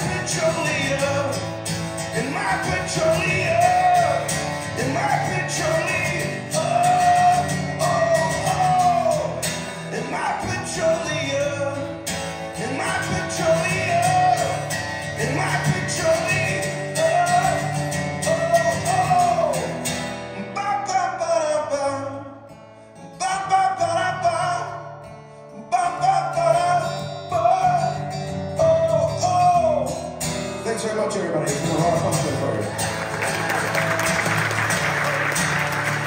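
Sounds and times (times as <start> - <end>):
man singing: 0.0 - 22.4, 23.1 - 24.8, 25.5 - 32.8
strummed acoustic guitar: 0.0 - 36.0.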